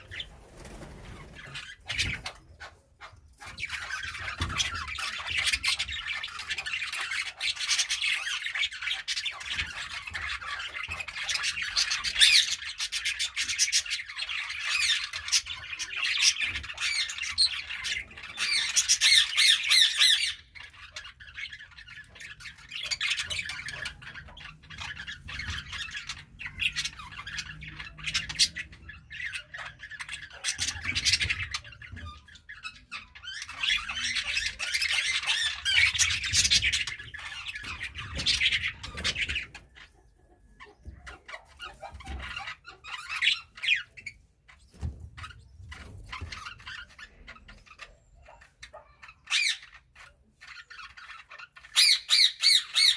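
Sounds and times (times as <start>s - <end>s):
budgerigars chattering and chirping: 0.0s - 52.9s.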